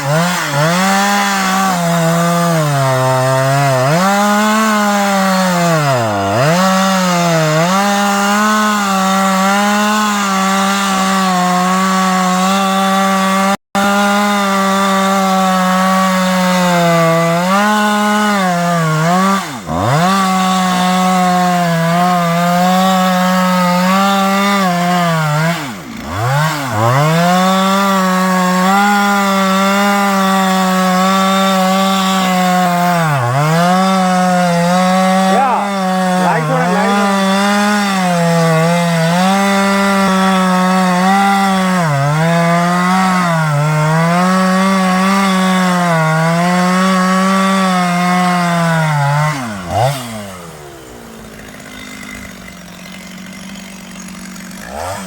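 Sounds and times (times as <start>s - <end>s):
chainsaw cutting a tree: 0.0s - 55.0s.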